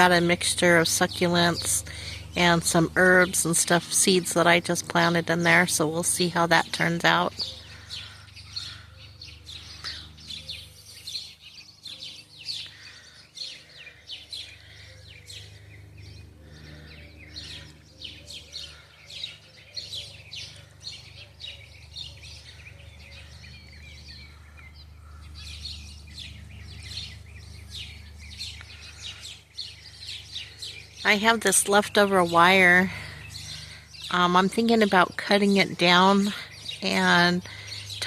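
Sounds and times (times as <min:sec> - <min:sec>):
songbirds chirping: 0:00.0 - 0:38.0
steady low hum: 0:00.0 - 0:38.0.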